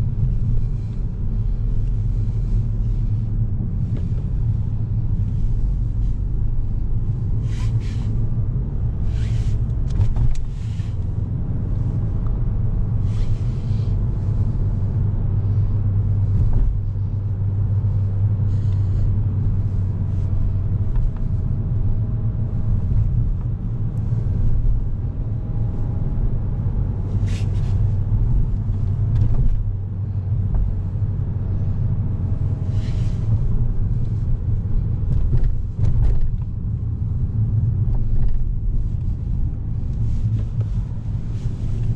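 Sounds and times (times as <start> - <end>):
car engine and road rumble: 0.0 - 41.9
faint engine whine: 0.0 - 41.9.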